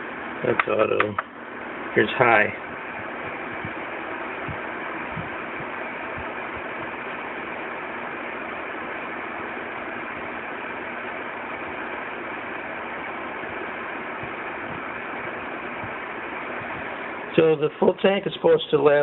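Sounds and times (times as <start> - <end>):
humidifier fan whooshing: 0.0 - 19.0.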